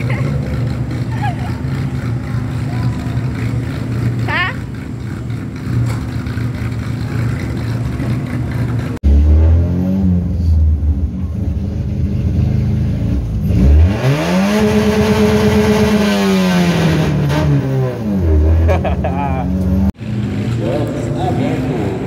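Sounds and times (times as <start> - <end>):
four-cylinder car engine revving: 0.0 - 22.0.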